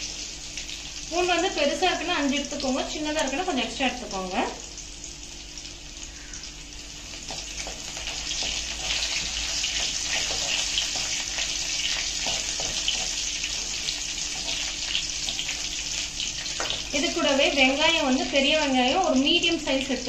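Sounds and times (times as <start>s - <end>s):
garlic sizzling in hot oil: 0.0s - 20.0s.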